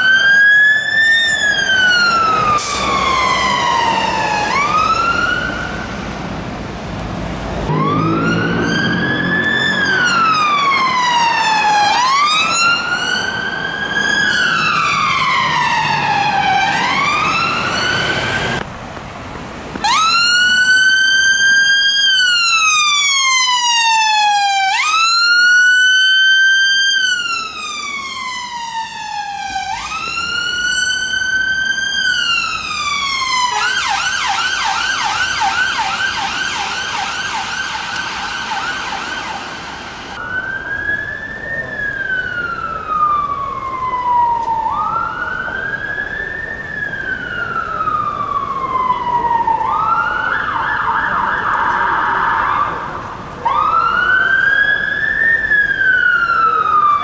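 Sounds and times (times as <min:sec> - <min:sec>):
emergency siren wailing and yelping: 0:00.0 - 0:06.0, 0:07.7 - 0:18.6, 0:19.8 - 0:57.0.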